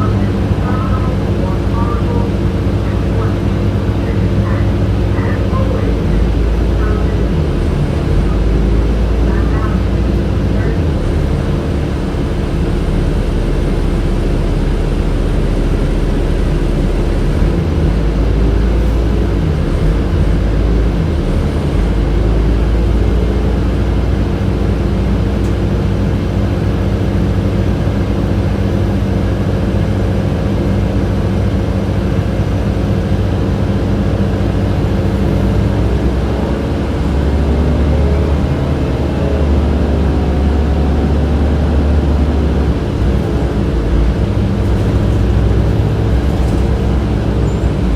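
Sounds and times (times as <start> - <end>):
bus engine drone: 0.0 - 47.9.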